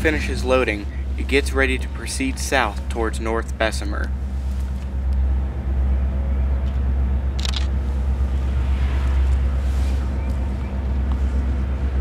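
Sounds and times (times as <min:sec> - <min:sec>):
faint hum: 0:00.0 - 0:12.0
low engine rumble: 0:00.0 - 0:12.0.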